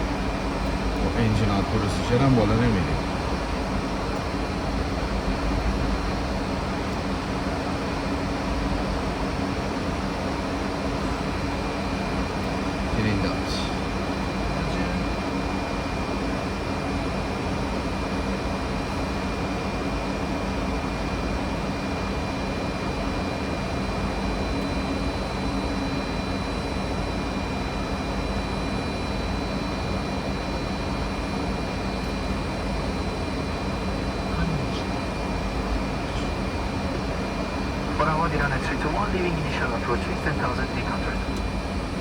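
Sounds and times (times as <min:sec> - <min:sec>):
airplane cabin noise: 0:00.0 - 0:42.0.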